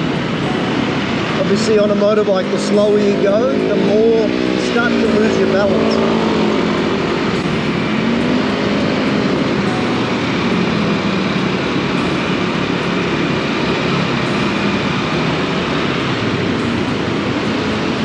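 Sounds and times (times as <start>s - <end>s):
road and air noise: 0.0s - 18.0s
scooter engine running: 0.0s - 18.0s.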